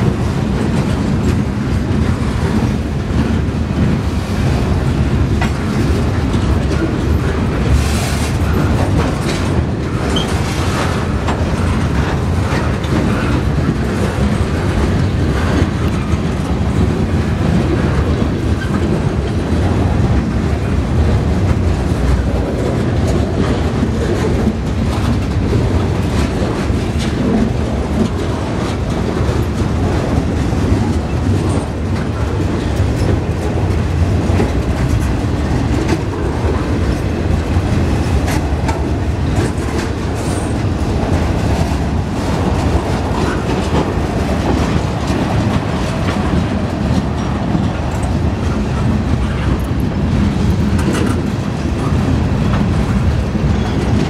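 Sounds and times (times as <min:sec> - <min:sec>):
freight train rumble: 0:00.0 - 0:54.0
wheels clicking over rail joints: 0:00.0 - 0:54.0.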